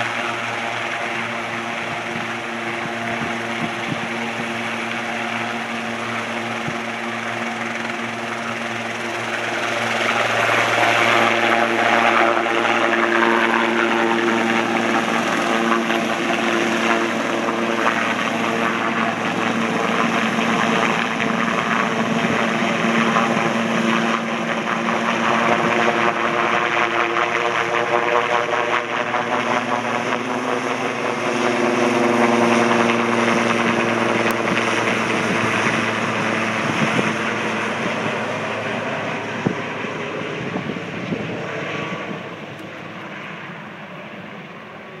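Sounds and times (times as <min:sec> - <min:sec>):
helicopter passing overhead: 0:00.0 - 0:45.0.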